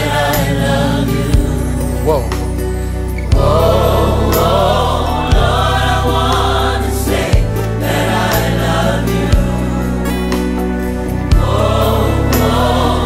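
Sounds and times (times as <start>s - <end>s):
bass and drum accents: 0.0s - 13.0s
gospel choir singing: 0.0s - 13.0s.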